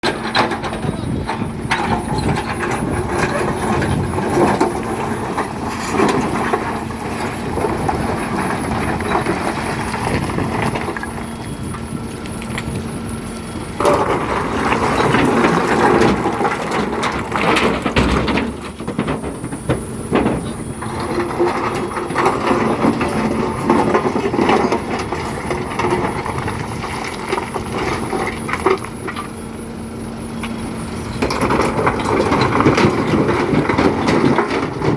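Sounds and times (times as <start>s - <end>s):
rocks clattering into truck: 0.0s - 29.5s, 30.4s - 34.9s
excavator engine running: 0.0s - 34.9s.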